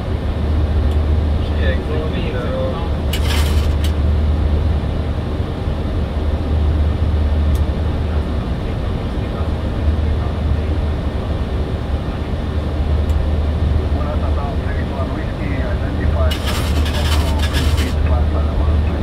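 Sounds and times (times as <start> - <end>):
aircraft engine and airflow rumble: 0.0 - 19.0.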